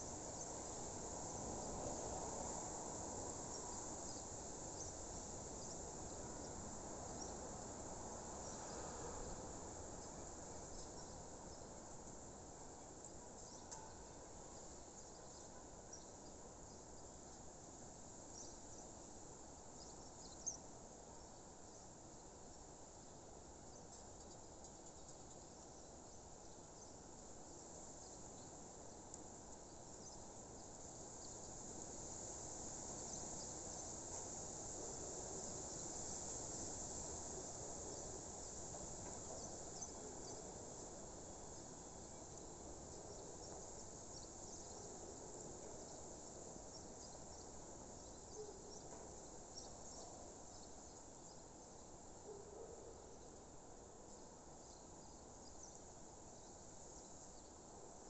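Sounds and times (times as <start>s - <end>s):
insects chirping: 0.0s - 22.6s, 23.7s - 53.4s
low background hiss: 0.0s - 58.0s.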